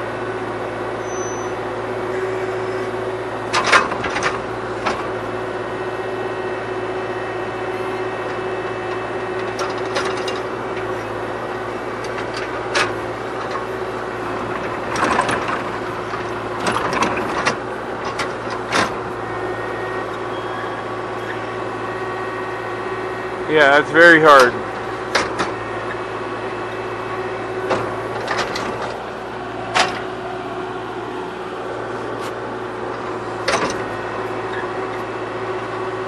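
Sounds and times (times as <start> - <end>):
mini excavator running: 0.0 - 36.0.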